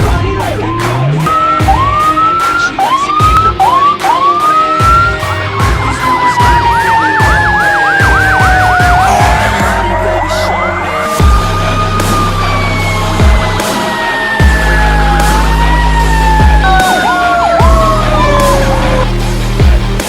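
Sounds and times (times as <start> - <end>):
emergency vehicle sirens: 0.0 - 20.0.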